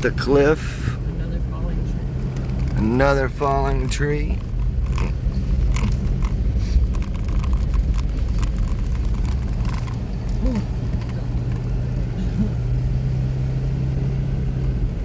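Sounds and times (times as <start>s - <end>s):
vehicle engine and road rumble: 0.0s - 15.0s
light rattles and clicks: 1.2s - 13.5s.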